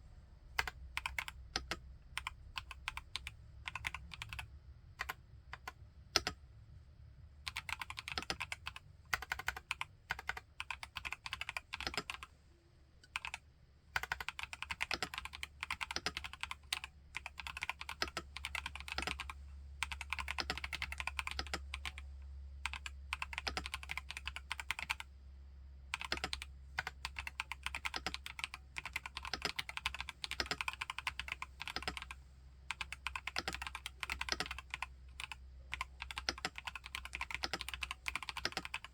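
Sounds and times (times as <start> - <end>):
typing on mechanical keyboard: 0.6 - 6.4, 7.5 - 12.3, 13.0 - 22.0, 22.6 - 25.1, 25.9 - 38.9.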